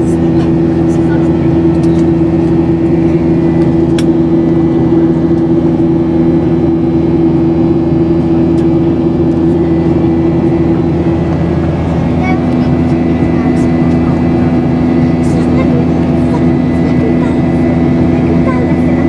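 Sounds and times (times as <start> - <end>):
constant low hum: 0.0 - 19.0
jet engines droning: 0.0 - 19.0.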